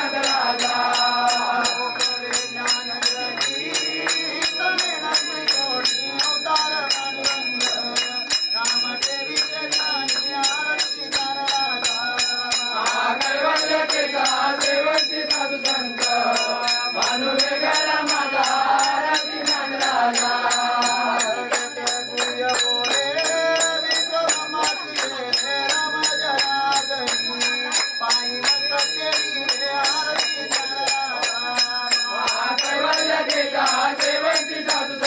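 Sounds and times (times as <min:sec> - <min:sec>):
group singing devotional song: 0:00.0 - 0:35.0
high metallic ringing: 0:00.0 - 0:35.0
rhythmic hand clapping: 0:00.0 - 0:35.0.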